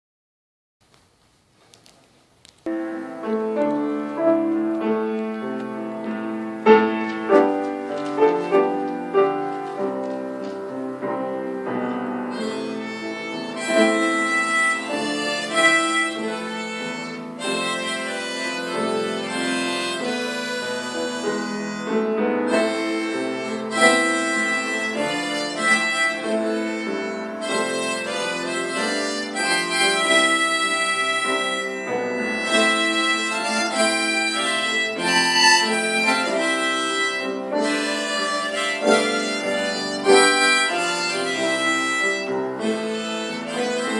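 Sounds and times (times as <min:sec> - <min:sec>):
piano-like keyboard accompaniment: 0:02.5 - 0:43.9
wind instrument melody: 0:02.7 - 0:43.9.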